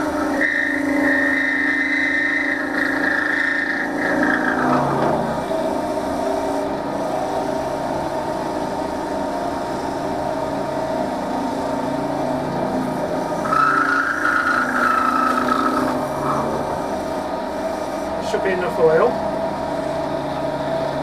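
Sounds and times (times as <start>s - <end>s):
wood lathe motor running: 0.0s - 21.0s.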